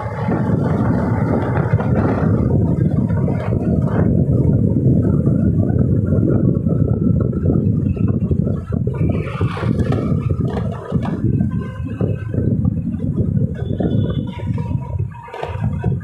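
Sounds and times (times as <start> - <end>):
scooter engine: 0.0 - 16.0
tyre noise: 0.0 - 16.0
wind buffeting microphone: 0.0 - 16.0.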